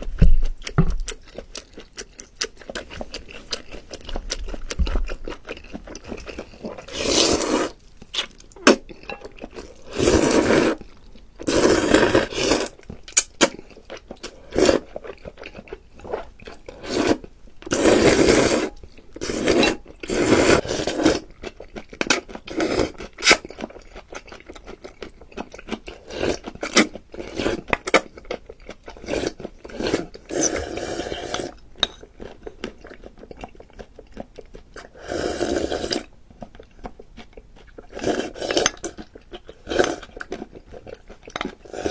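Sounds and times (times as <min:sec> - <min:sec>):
chewing and crunching: 0:00.0 - 0:18.1, 0:18.7 - 0:41.9.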